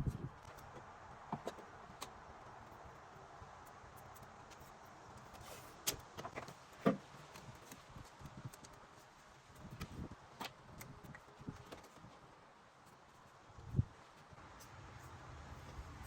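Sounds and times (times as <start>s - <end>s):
light clicks and knocks of hoses: 0.0s - 16.0s.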